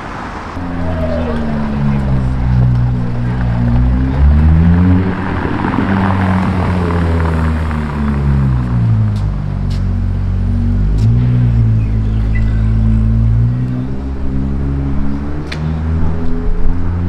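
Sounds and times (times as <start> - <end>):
car engine and exhaust accelerating: 0.0 - 17.0.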